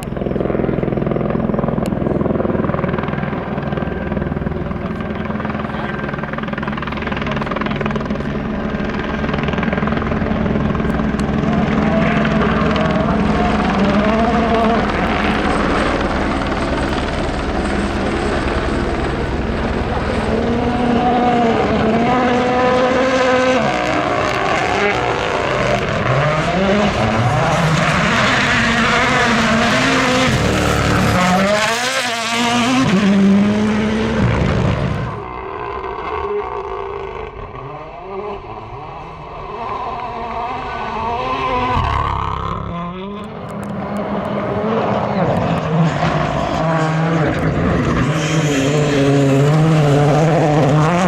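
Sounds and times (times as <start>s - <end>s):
helicopter rotor beating: 0.0s - 33.1s, 43.2s - 51.0s
car engine wavering in pitch: 0.0s - 35.2s, 43.0s - 51.0s.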